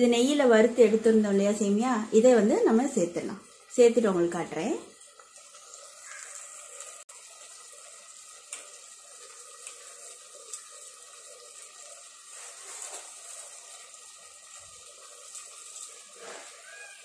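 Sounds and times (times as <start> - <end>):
pot simmering with sizzling hiss: 0.0 - 17.0.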